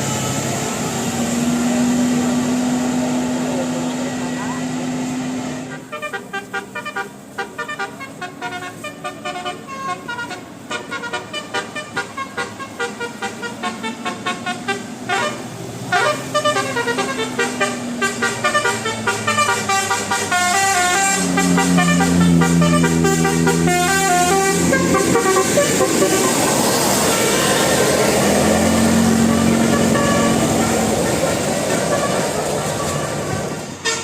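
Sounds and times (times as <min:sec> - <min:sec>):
long low horn tone: 0:01.7 - 0:34.0
bus multi-tone horn jingling notes: 0:05.4 - 0:34.0.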